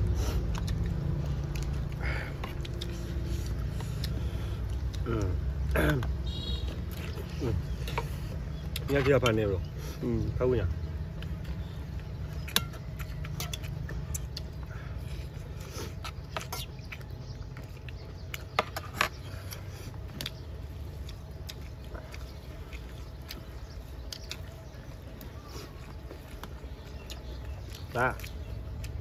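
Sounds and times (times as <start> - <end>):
steady low rumble: 0.0 - 8.9, 9.6 - 29.0
wet chewing clicks and smacks: 0.0 - 29.0.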